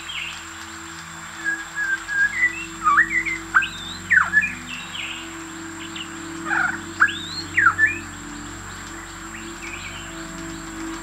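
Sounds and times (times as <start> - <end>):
bird singing whistled notes: 1.2 - 11.0.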